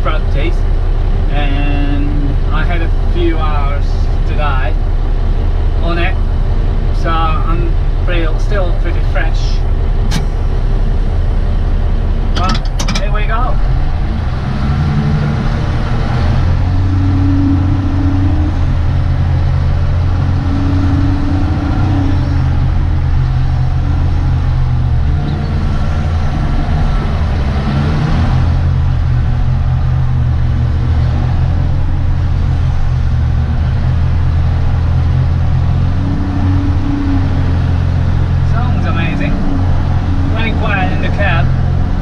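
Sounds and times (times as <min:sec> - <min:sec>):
diesel engine running: 0:00.0 - 0:42.0
higher hum: 0:00.0 - 0:42.0.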